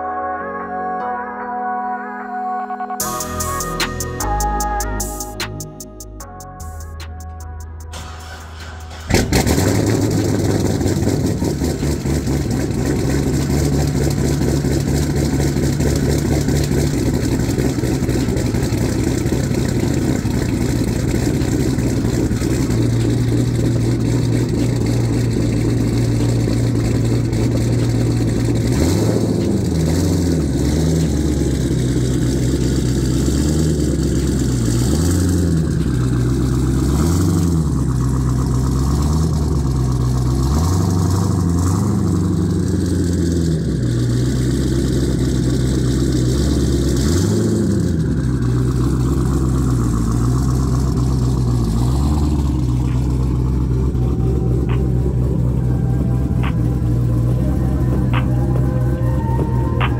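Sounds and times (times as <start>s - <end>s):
car engine idling and revving: 3.0s - 59.9s.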